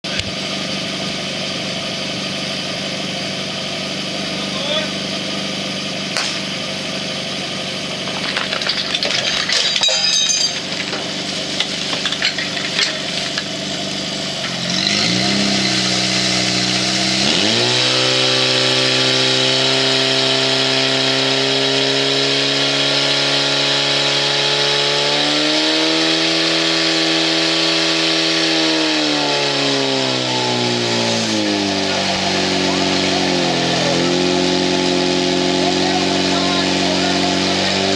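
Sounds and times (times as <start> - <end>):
pump engine revving: 0.0 - 37.9.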